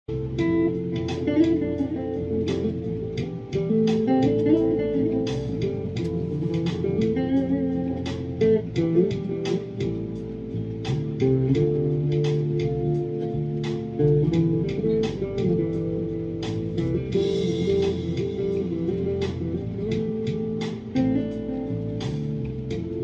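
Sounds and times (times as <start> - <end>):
electric guitar picked notes: 0.1 - 23.0.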